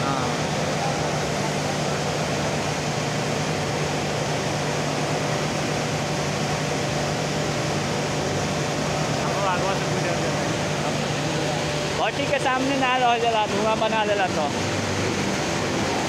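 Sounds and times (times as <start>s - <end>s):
furnace burner and blower rushing: 0.0s - 16.0s.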